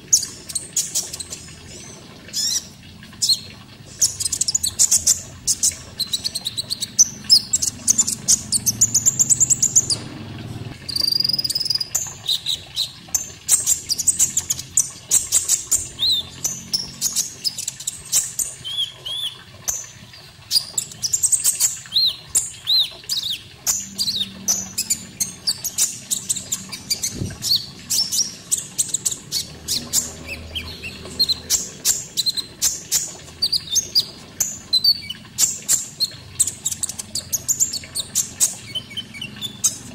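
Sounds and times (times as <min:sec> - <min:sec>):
high-pitched birdsong chirps and trills: 0:00.0 - 0:39.9.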